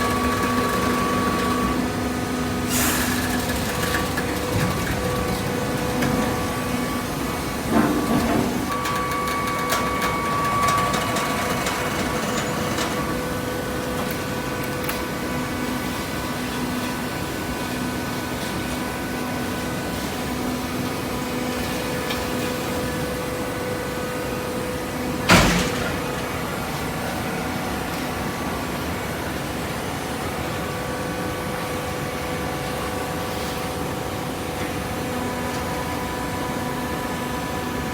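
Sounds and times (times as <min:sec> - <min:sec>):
baler mechanical hum: 0:00.0 - 0:37.9.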